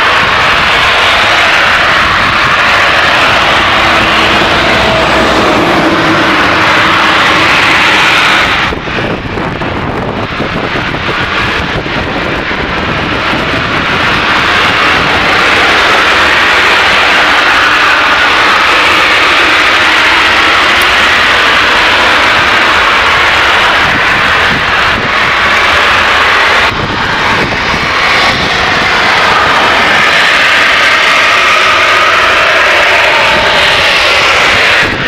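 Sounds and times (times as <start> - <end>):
high-pressure gas venting hiss: 0.0 - 11.6, 12.2 - 35.0.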